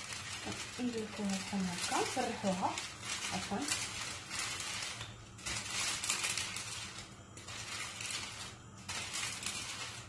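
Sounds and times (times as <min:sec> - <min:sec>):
baking paper rustling: 0:00.0 - 0:10.0
rolling pin rolling dough: 0:00.0 - 0:10.0.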